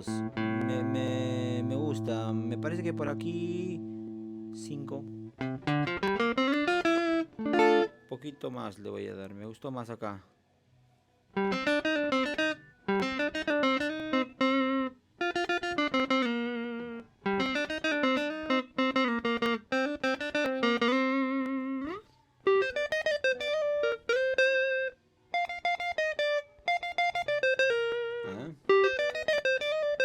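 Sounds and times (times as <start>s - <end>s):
clean electric guitar melody: 0.0s - 8.2s, 11.4s - 30.0s.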